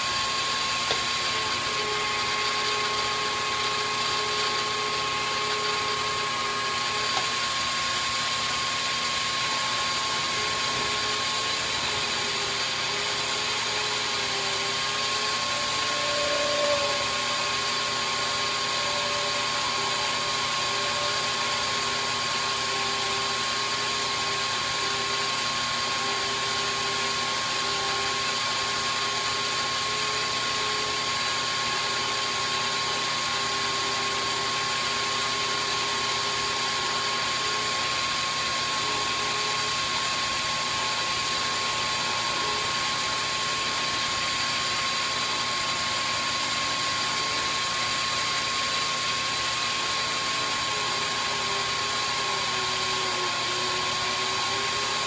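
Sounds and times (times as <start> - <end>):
lathe mechanical whine: 0.0 - 55.0.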